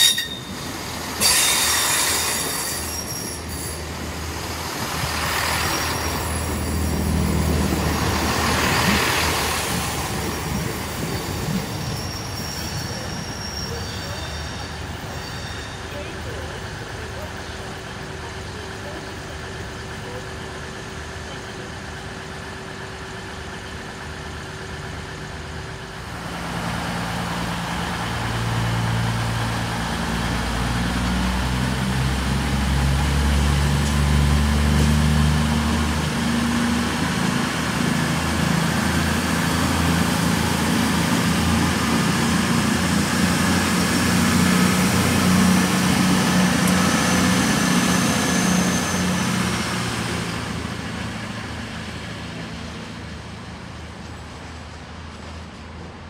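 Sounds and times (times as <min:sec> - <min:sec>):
diesel train engine running: 0:00.0 - 0:56.0.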